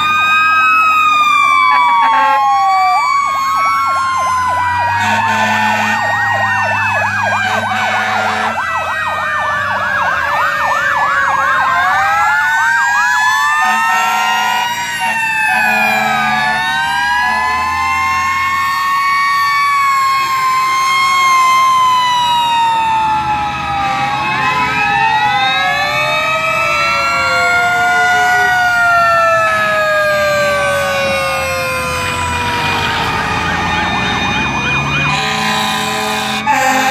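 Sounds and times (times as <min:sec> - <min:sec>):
fast siren yelp: 0:00.0 - 0:36.9
sirens wailing: 0:00.0 - 0:36.9.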